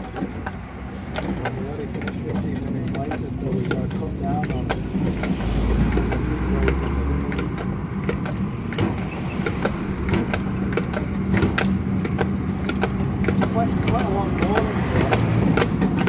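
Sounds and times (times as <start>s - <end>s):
horse hooves clopping: 0.0s - 16.0s
iron wheels rumbling on rails: 0.0s - 16.0s
tram car rattling and knocking: 0.0s - 16.0s.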